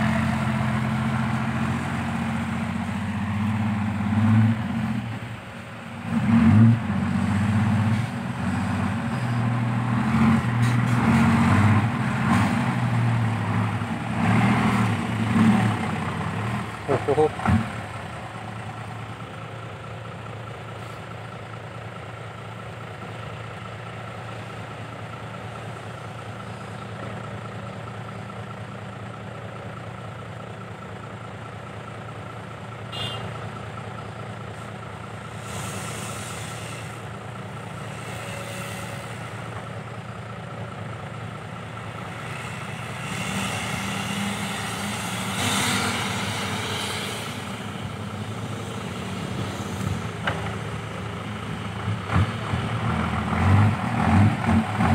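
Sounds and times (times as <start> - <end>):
diesel truck engine idling: 0.0 - 6.1, 11.6 - 54.9.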